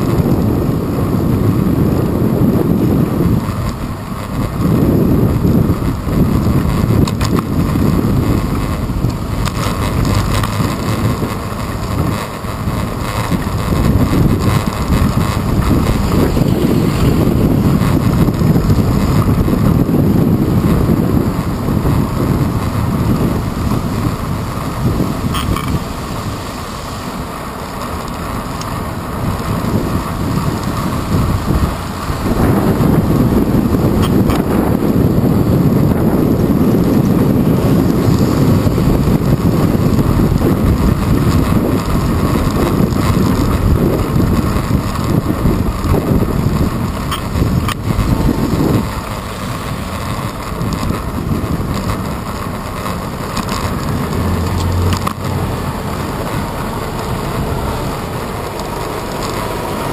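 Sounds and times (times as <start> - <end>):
passing city traffic: 0.0 - 59.9
road and tyre noise: 0.0 - 59.9
wind buffeting microphone: 0.0 - 59.9.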